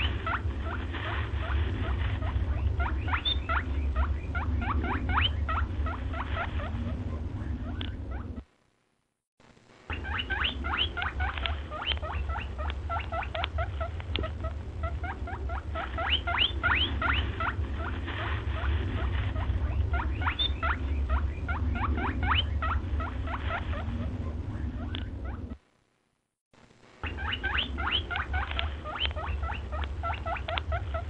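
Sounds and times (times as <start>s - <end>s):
small animals squeaking: 0.0s - 8.4s, 9.9s - 25.6s, 27.0s - 31.0s
steady low hum: 0.0s - 31.0s.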